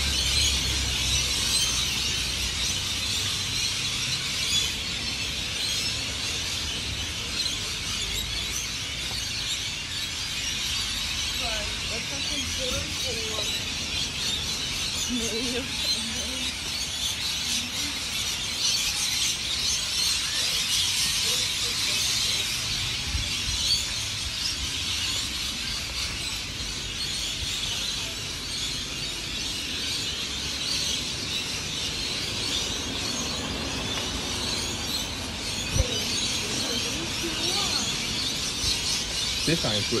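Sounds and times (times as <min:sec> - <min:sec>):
flock of birds chattering: 0:00.0 - 0:40.0.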